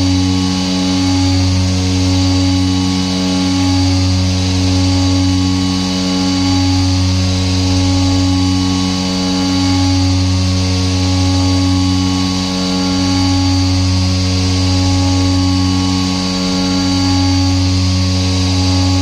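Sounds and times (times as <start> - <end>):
milling spindle humming: 0.0 - 19.0.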